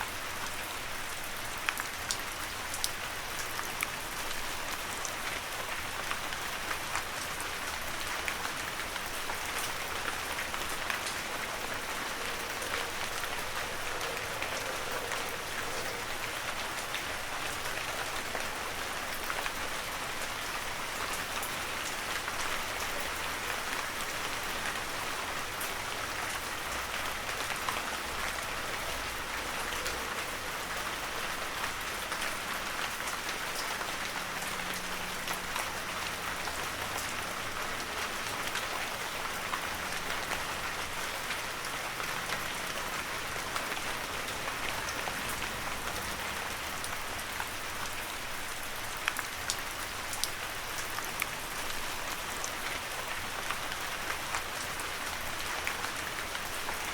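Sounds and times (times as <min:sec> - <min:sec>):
heavy rain falling: 0:00.0 - 0:56.9
raindrops pattering: 0:00.0 - 0:56.9.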